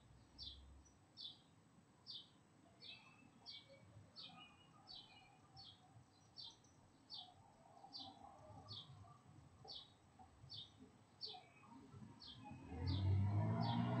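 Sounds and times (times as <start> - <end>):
small bird chirping: 0.2 - 1.5, 2.1 - 13.9.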